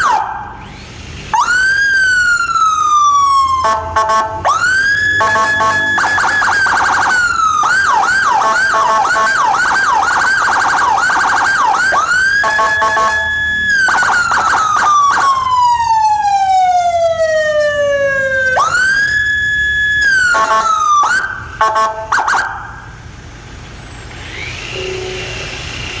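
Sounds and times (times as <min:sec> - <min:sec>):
electronic vehicle siren: 0:00.0 - 0:23.1, 0:24.3 - 0:26.0.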